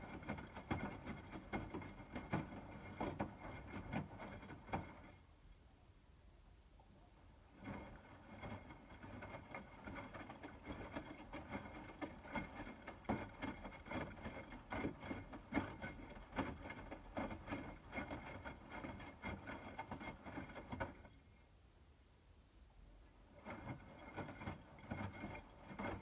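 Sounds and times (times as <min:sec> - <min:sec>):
water sloshing in washing machine: 0:00.0 - 0:05.2, 0:07.4 - 0:21.2, 0:23.2 - 0:26.0
faint steady whine: 0:00.0 - 0:26.0.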